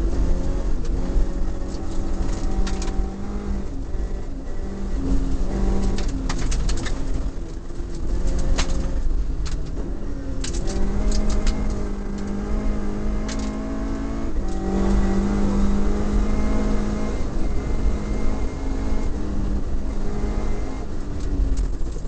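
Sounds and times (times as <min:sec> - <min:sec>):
car engine pulling hard: 0:00.0 - 0:22.0.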